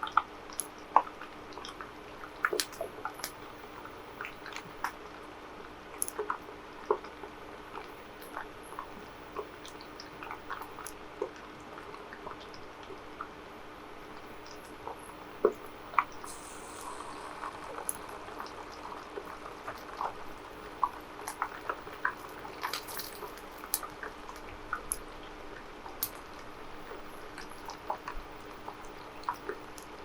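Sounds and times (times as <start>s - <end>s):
food frying in hot oil: 0.0s - 30.0s.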